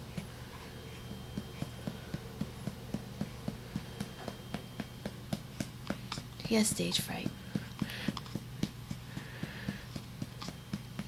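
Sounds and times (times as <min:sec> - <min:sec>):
low hum: 0:00.0 - 0:11.0
soft patting on baby's back: 0:00.9 - 0:11.0.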